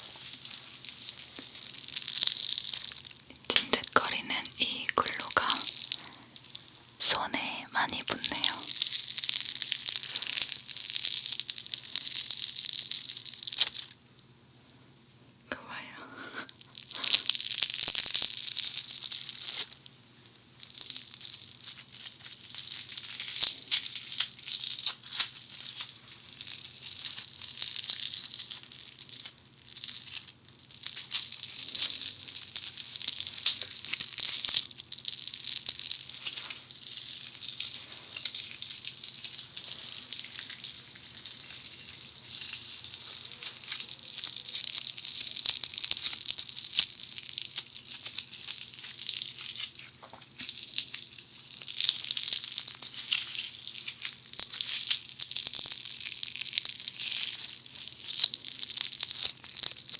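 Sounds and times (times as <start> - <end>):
foam beads crackling and popping: 0.0 - 14.4, 15.6 - 59.9.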